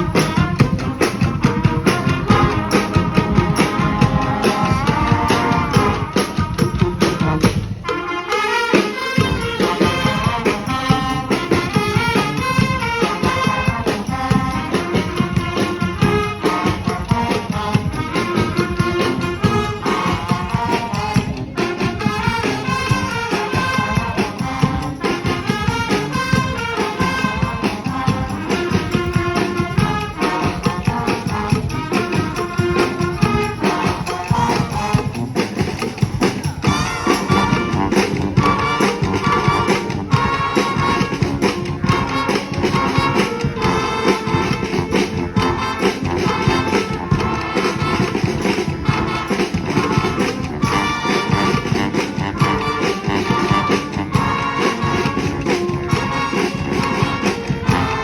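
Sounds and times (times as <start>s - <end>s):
brass band playing: 0.0s - 58.0s
low drums: 0.0s - 58.0s.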